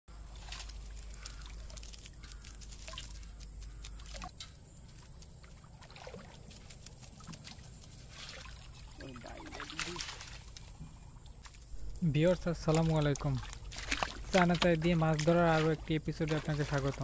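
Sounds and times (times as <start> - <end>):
water splashing and dripping: 0.2 - 17.0.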